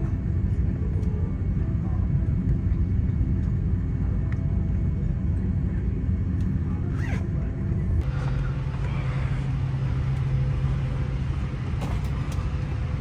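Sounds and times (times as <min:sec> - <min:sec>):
low hum: 0:00.0 - 0:13.0
vehicle engine rumbling: 0:00.0 - 0:13.0.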